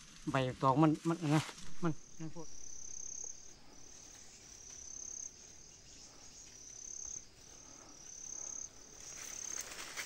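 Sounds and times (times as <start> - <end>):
faint insect trilling: 0.0 - 10.0.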